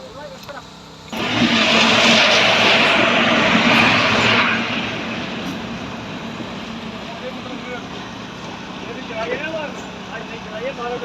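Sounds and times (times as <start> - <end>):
train passing with rushing rumble: 1.1 - 11.0.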